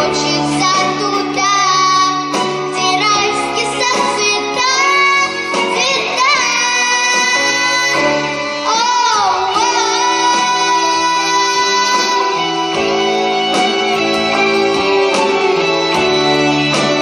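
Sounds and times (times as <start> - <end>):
girl singing pop song: 0.0 - 16.1
instrumental backing track: 0.0 - 17.0.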